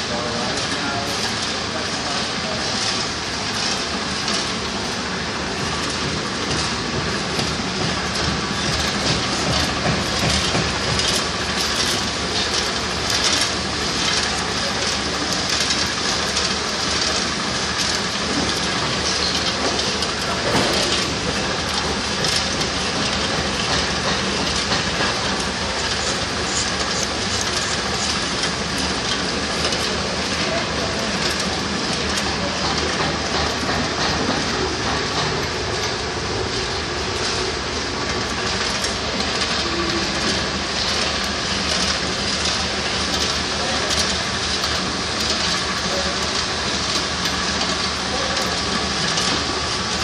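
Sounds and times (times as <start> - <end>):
machine rattling clatter: 0.0 - 50.0.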